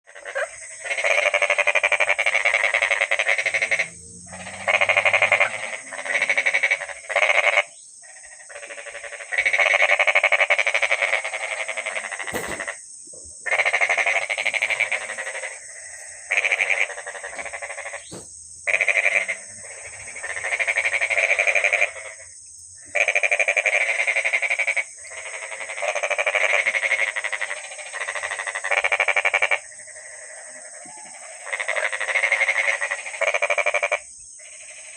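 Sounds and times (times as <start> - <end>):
frogs croaking in chorus: 0.0 - 34.9.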